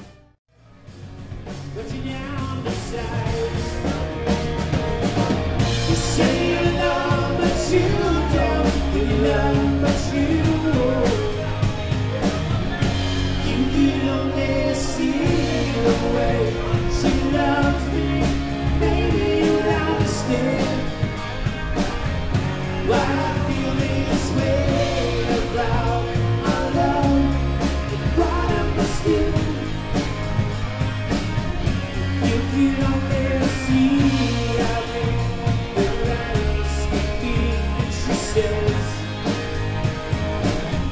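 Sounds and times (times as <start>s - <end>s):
electric guitars: 0.0s - 40.9s
drum kit beat: 0.8s - 40.9s
man singing lead vocal: 1.7s - 4.4s, 5.6s - 30.5s, 31.7s - 39.6s.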